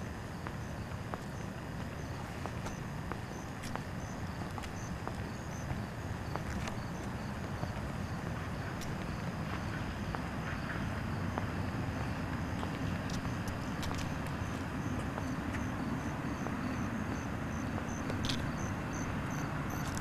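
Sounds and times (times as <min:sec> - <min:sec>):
crickets chirping: 0:00.0 - 0:20.0
steady low rumble: 0:00.0 - 0:20.0.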